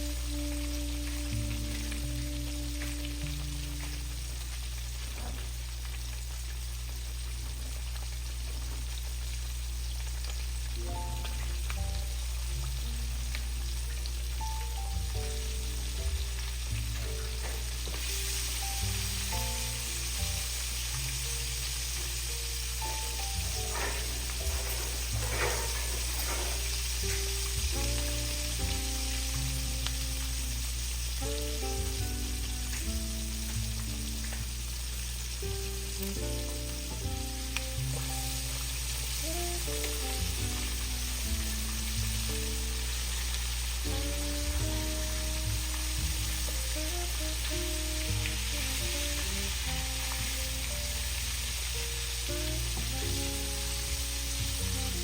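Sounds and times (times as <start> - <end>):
background music: 0.0 - 4.4, 10.8 - 55.0
chicken sizzling in hot oil: 0.0 - 55.0.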